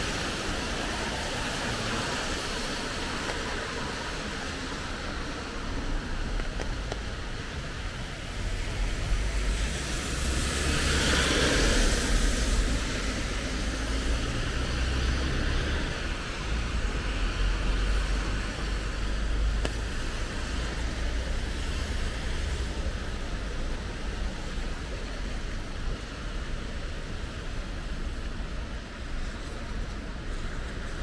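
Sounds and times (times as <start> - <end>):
low traffic rumble: 0.0 - 31.0
tyres hissing on wet road: 0.0 - 31.0.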